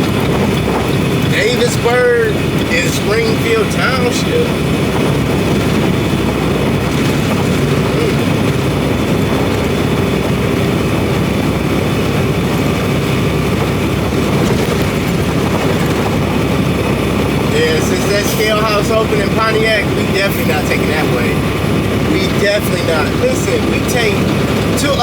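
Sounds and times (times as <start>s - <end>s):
truck engine and road noise: 0.0s - 25.0s.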